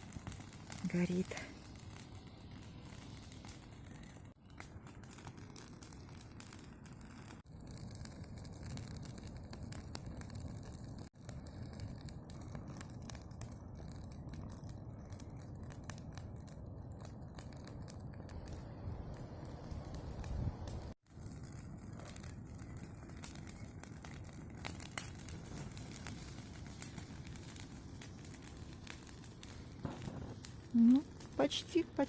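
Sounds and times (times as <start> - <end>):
bonfire crackling and popping: 0.0 - 32.0.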